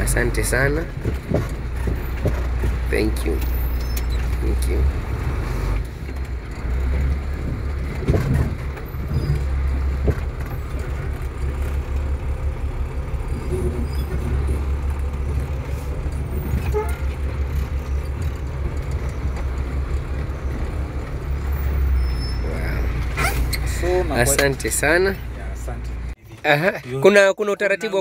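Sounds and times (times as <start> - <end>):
fire engine engine rumbling: 0.0 - 27.0.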